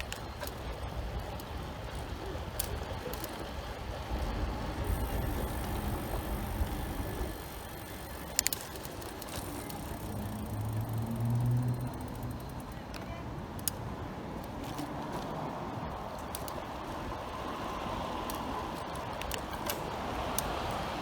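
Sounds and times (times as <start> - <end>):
short sharp bike clicks: 0.0 - 3.5, 4.2 - 15.4, 16.1 - 21.0
wind and rolling bike noise: 0.0 - 21.0.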